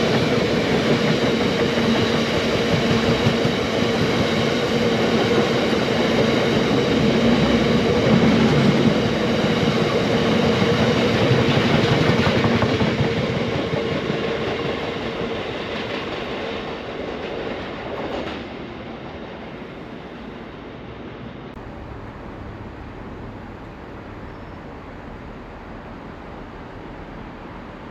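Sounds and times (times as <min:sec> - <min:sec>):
train passing at speed: 0:00.0 - 0:27.9.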